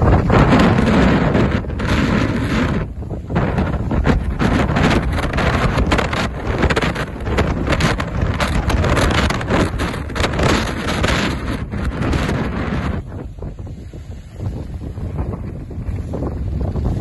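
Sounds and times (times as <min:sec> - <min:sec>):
waves breaking against seawall: 0:00.0 - 0:17.0
wind buffeting microphone: 0:00.0 - 0:17.0.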